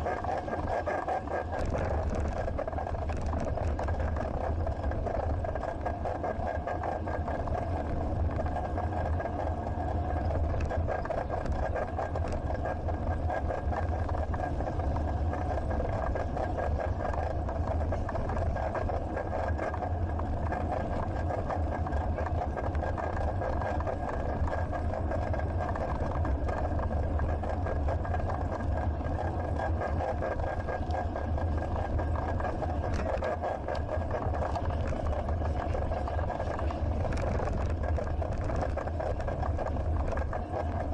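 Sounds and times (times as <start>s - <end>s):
bicycle rolling noise: 0.0s - 40.9s
wind rumble: 1.5s - 40.9s.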